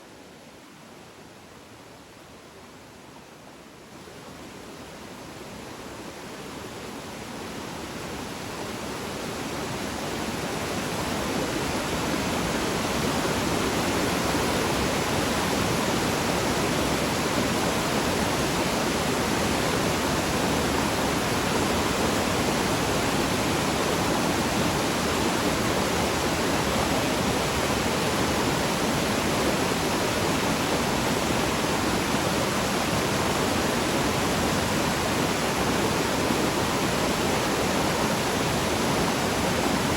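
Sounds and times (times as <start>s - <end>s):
waterfall roaring: 4.9s - 39.9s.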